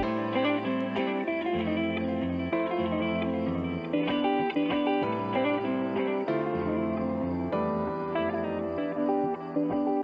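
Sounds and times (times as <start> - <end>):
plucked guitar: 0.0 - 10.0.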